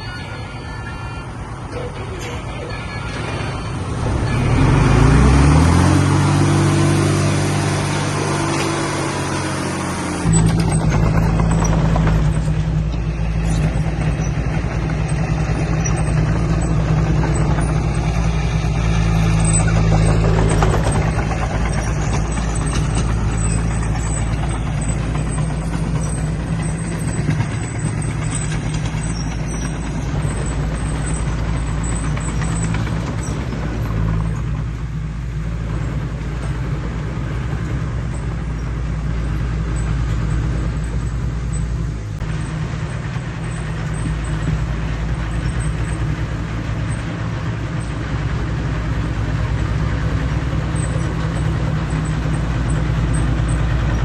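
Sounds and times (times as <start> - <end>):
heavy diesel machinery drone: 0.0 - 54.0.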